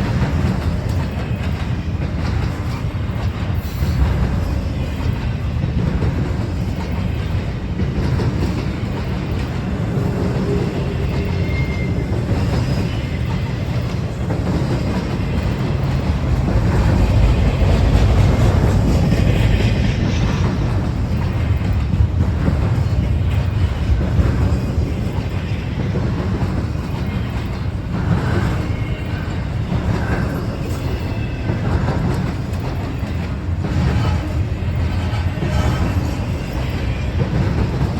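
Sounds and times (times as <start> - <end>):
freight train rolling past: 0.0 - 37.9.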